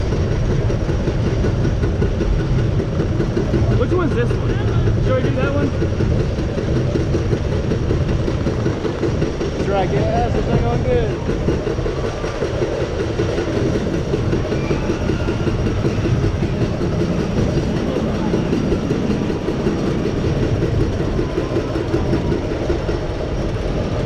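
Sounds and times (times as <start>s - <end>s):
low rumble: 0.0s - 24.0s
roller coaster chain lift: 0.0s - 24.0s.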